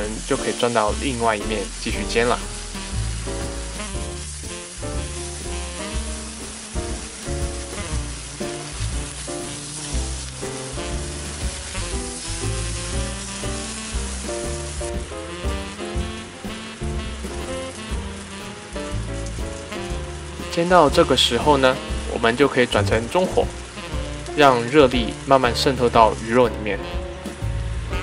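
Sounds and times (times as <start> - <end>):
background music: 0.0 - 28.0
fish sizzling in a frying pan: 0.0 - 28.0.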